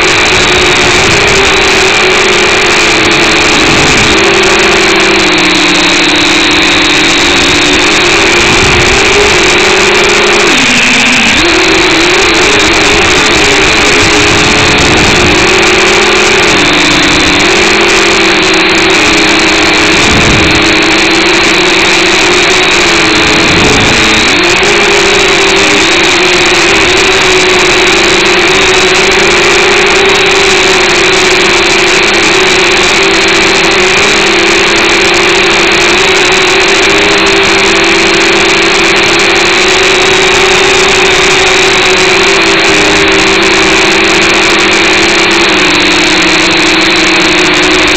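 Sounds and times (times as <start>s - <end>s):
quadcopter motors buzzing: 0.0s - 47.9s.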